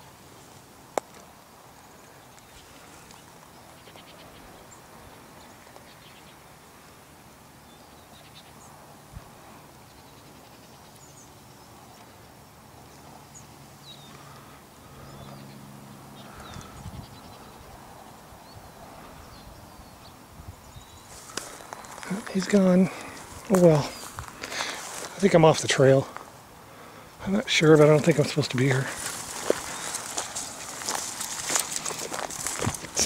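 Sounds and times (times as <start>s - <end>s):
low distant drone: 0.0s - 33.0s.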